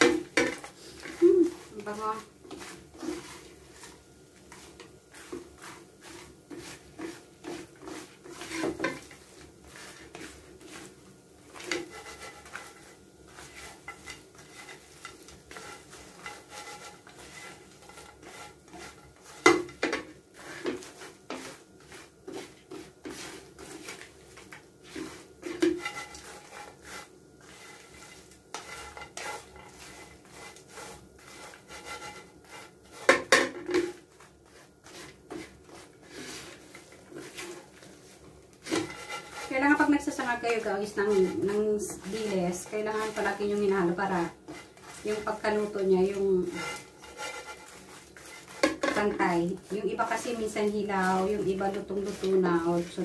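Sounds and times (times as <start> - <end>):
spatula scraping frying pan: 0.0 - 53.0.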